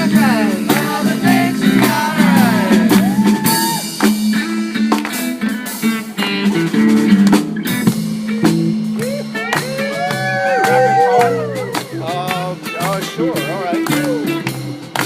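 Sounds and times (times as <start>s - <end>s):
drum kit beat: 0.0s - 15.0s
guitar chords: 0.0s - 15.0s.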